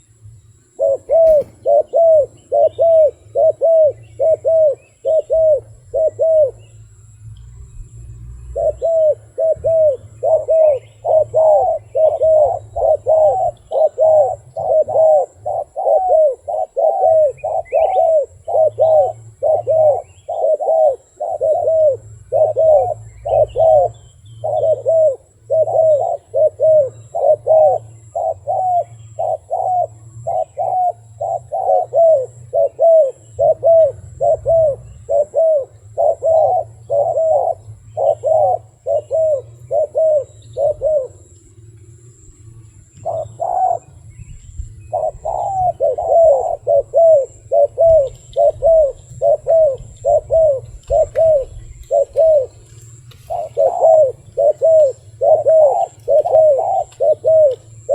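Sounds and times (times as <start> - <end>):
dove cooing: 0.7 - 6.8, 8.2 - 57.9.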